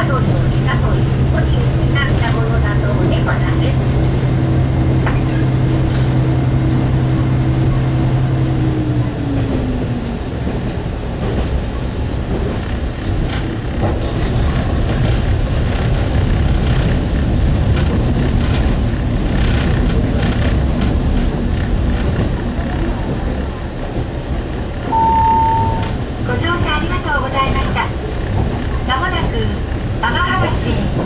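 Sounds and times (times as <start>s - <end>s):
diesel railcar engine drone: 0.0s - 31.0s
train running gear rumble: 0.0s - 31.0s
wheels clicking on rails: 0.2s - 31.0s.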